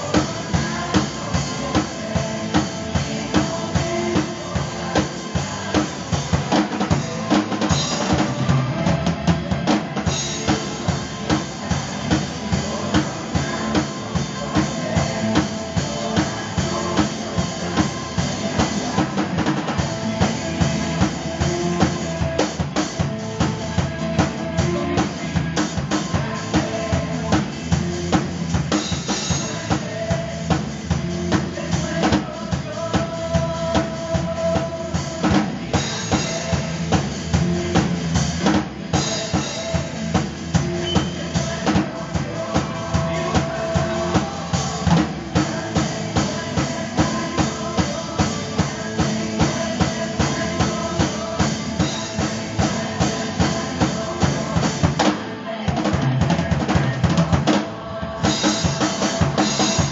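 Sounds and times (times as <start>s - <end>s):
drum kit playing: 0.0s - 59.9s
recorded song: 0.0s - 59.9s.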